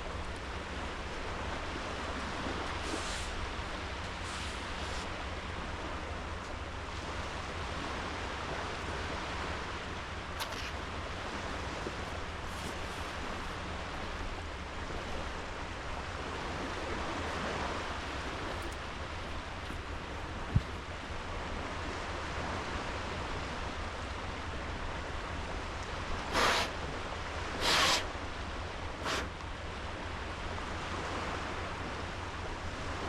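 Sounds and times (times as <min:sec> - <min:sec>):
waves washing onto beach: 0:00.0 - 0:33.0.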